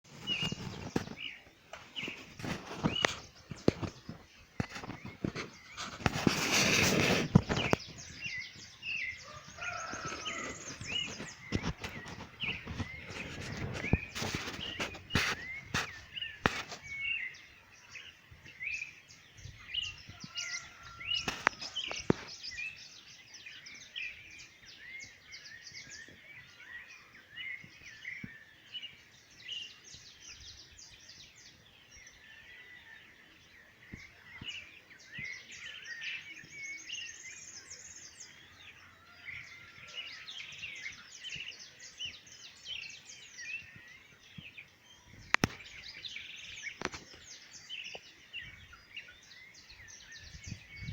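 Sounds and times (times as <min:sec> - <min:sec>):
small birds chirping: 0:00.1 - 0:50.9.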